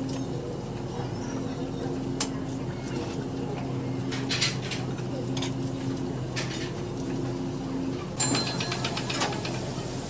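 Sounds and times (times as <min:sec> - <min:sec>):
kitchen equipment hum: 0:00.0 - 0:10.0.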